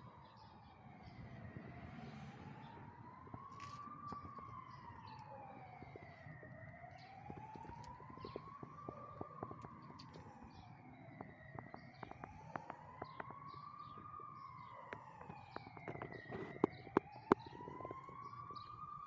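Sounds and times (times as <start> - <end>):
faint siren wailing: 0.0 - 19.0.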